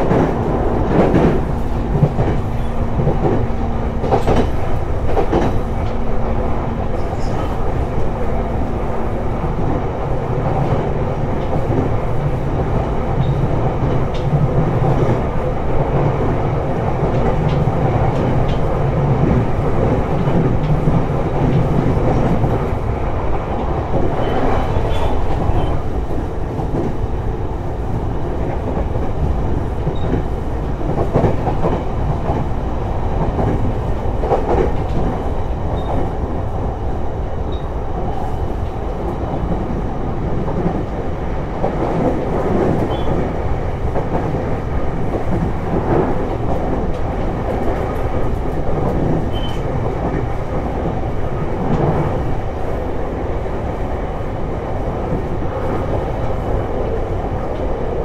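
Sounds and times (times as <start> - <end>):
rail joint clicks: 0.0 - 58.0
train wheels rumbling on rail: 0.0 - 58.0.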